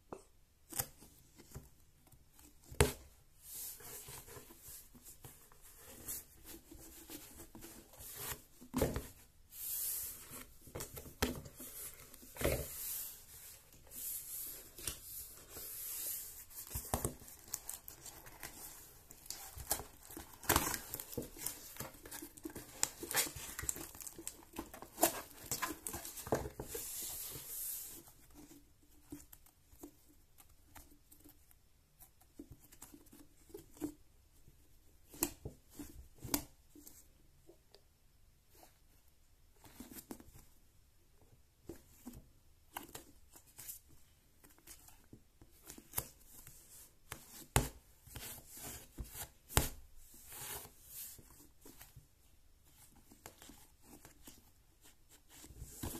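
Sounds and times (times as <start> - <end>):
soft handling sounds: 0.0 - 55.9.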